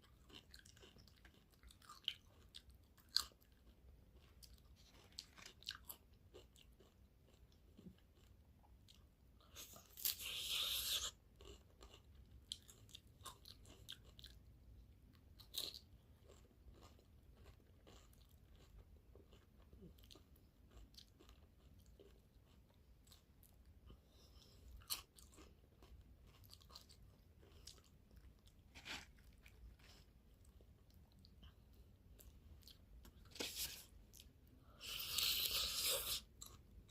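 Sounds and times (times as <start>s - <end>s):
chewing and crunching food: 0.0s - 36.9s.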